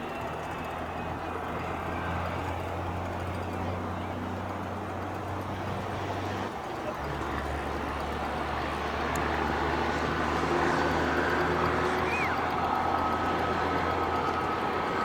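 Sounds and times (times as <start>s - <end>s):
engine rumble with low hum: 0.0s - 15.0s.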